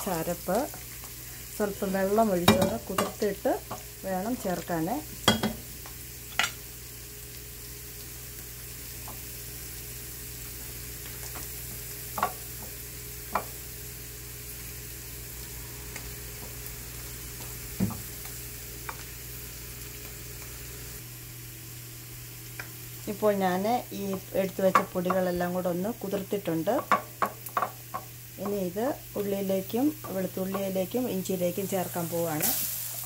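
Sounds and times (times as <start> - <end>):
food sizzling in oil: 0.0 - 33.0.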